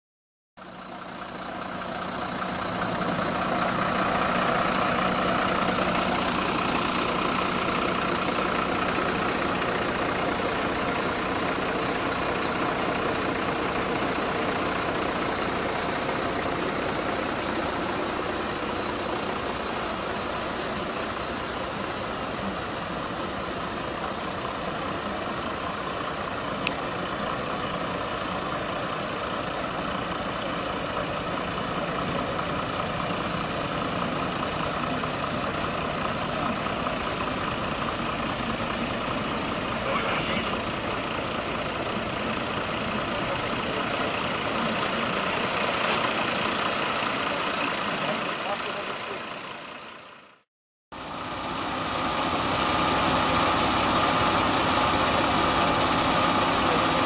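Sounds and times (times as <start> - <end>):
vehicle engines idling: 0.6 - 57.0.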